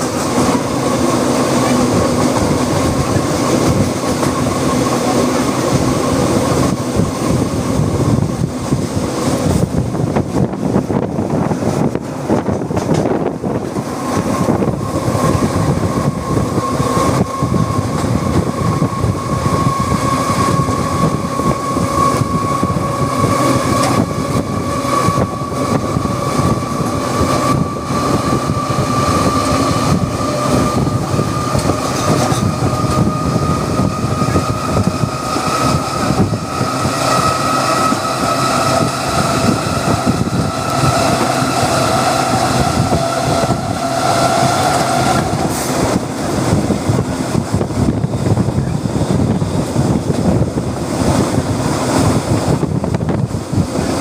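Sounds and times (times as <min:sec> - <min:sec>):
train rumbling with whine: 0:00.0 - 0:54.0.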